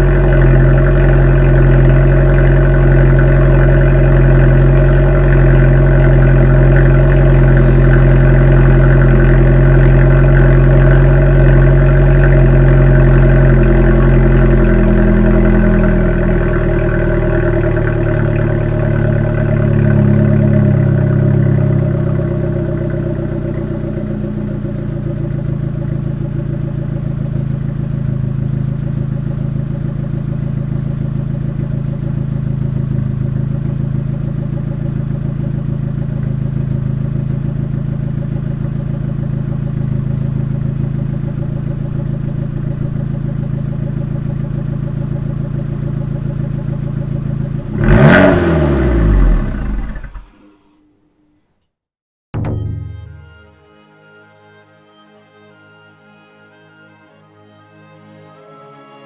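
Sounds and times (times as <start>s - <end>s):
car engine idling: 0.0s - 50.6s
engine throttle blip: 0.0s - 51.0s, 52.4s - 53.7s.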